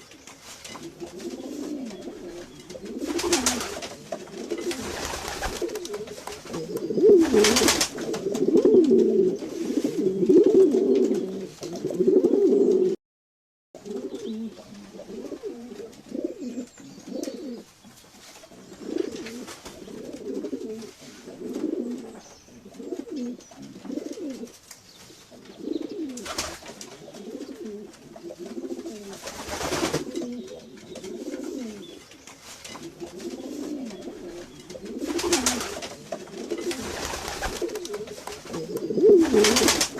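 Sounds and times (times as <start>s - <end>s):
pigeons cooing: 0.7s - 13.0s, 13.8s - 17.7s, 18.5s - 24.6s, 25.2s - 39.9s.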